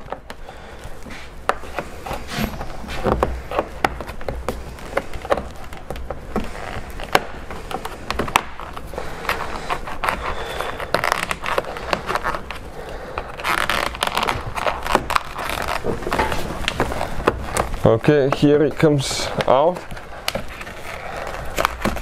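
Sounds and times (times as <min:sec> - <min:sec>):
plastic trim scraping and creaking: 0:00.0 - 0:22.0.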